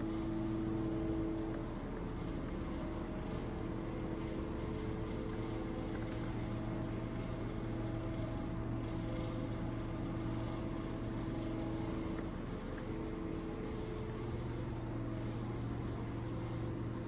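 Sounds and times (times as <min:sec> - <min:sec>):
machine hum with high tones: 0:00.0 - 0:17.0.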